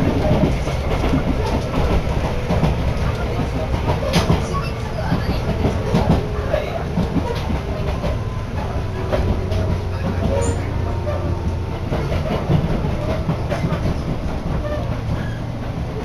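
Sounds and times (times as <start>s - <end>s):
train running low rumble: 0.0s - 16.0s
wheels clacking over rail joints: 0.0s - 16.0s.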